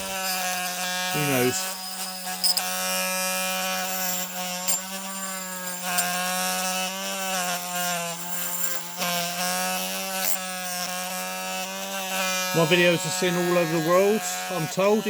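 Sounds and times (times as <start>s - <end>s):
rotary tool motor hum: 0.0s - 15.0s
wire brush scrubbing metal: 0.0s - 15.0s.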